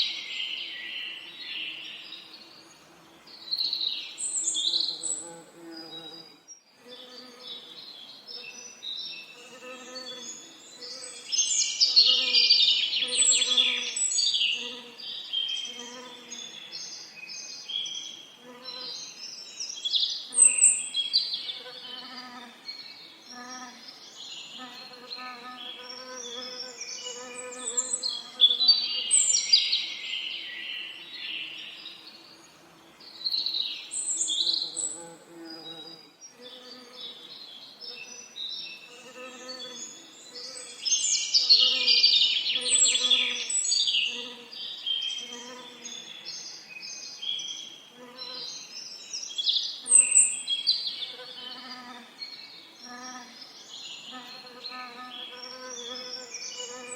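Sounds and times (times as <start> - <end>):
birds singing and trilling: 3.3 - 56.9.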